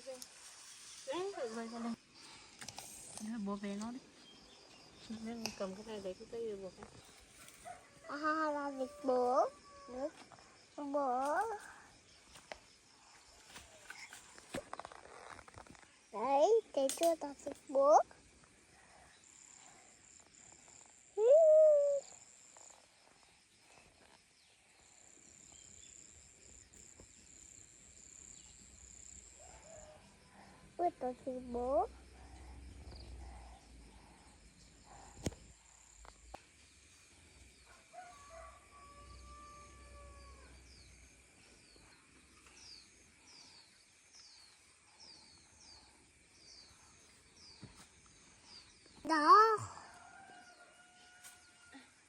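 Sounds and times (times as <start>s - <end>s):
insects chirring: 0.0s - 52.0s
loud drawn-out insect call: 0.0s - 52.0s.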